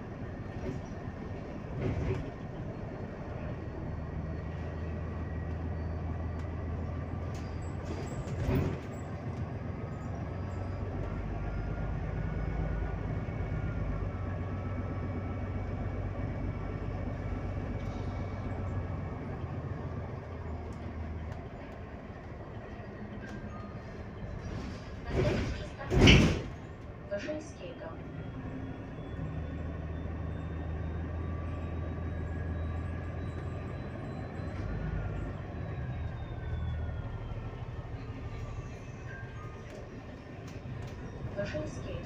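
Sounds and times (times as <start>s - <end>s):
bus cabin low drone: 0.0s - 42.0s.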